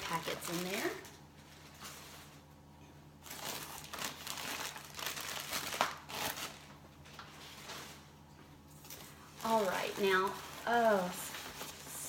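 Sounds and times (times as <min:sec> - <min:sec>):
sharp plastic crackle: 0:00.0 - 0:02.4, 0:03.2 - 0:08.0, 0:08.8 - 0:12.0
plastic packing crinkling: 0:00.0 - 0:02.5, 0:03.2 - 0:08.1, 0:08.8 - 0:12.0.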